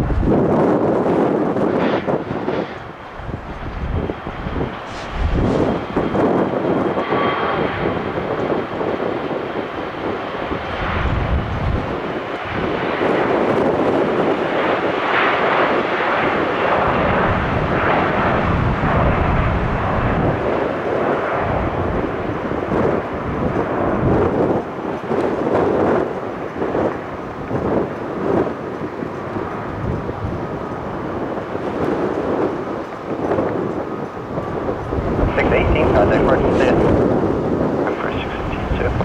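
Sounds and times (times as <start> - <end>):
jet taking off: 0.0 - 32.6, 33.6 - 39.0.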